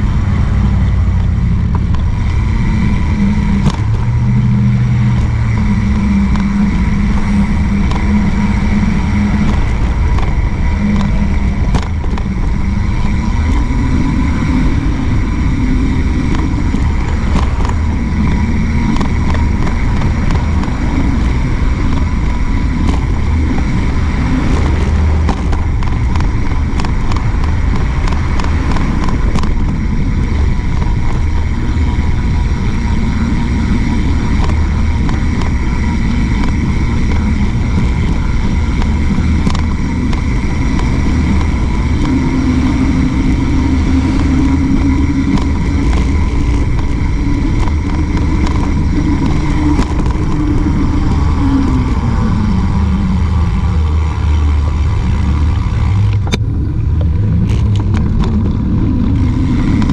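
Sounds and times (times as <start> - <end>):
bike tyre noise: 0.0 - 59.9
cars passing: 0.0 - 59.9
wind buffeting microphone: 0.0 - 59.9.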